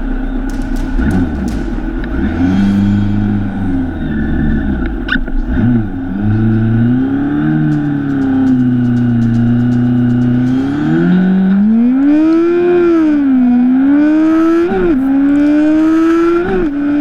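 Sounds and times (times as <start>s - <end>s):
motorcycle engine revving and accelerating: 0.0s - 17.0s.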